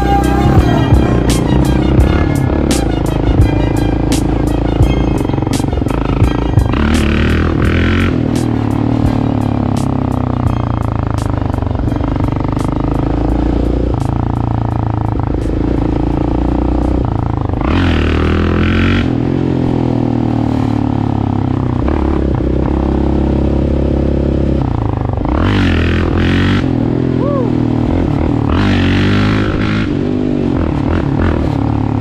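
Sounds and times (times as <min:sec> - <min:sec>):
single-cylinder engine running: 0:00.0 - 0:32.0.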